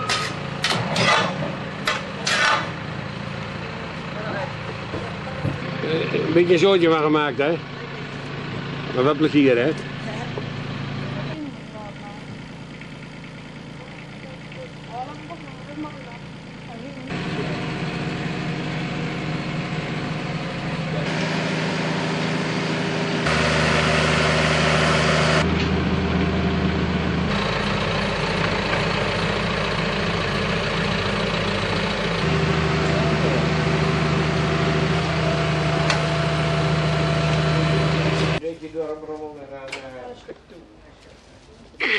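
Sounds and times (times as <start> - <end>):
mini excavator engine running: 0.0 - 38.4
tractor diesel engine running: 0.0 - 38.9.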